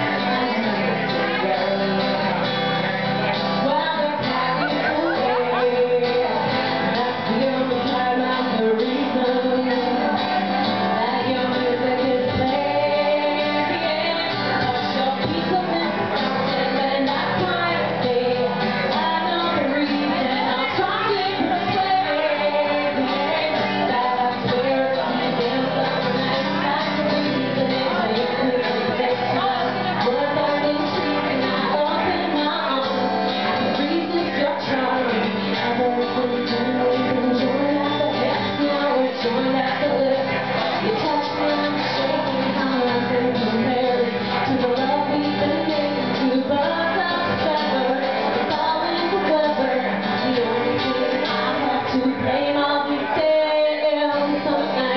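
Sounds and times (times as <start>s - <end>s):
acoustic guitar: 0.0s - 54.9s
woman singing into a microphone: 0.0s - 54.9s.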